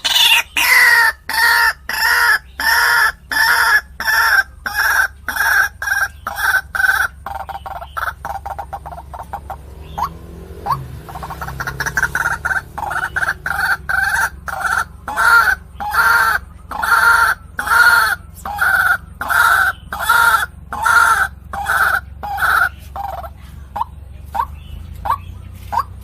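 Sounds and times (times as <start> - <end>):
waterhen two-toned calls: 0.0 - 26.0.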